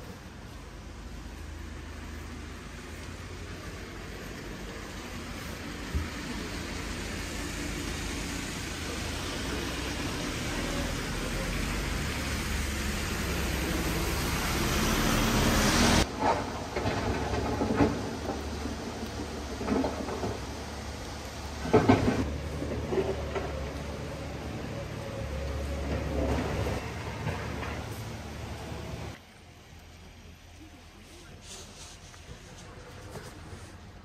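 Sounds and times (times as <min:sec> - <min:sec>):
rushing outdoor noise: 0:00.0 - 0:34.0.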